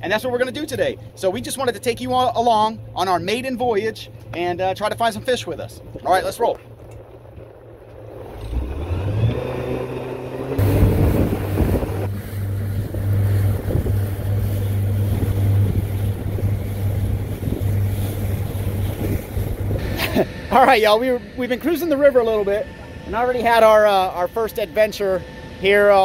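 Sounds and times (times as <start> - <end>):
outboard motor running: 0.0 - 26.0
rushing wind and water: 0.0 - 26.0.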